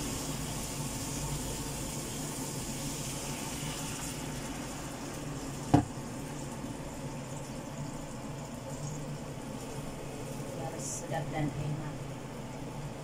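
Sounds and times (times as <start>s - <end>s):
pan simmering and sizzling: 0.0s - 13.0s.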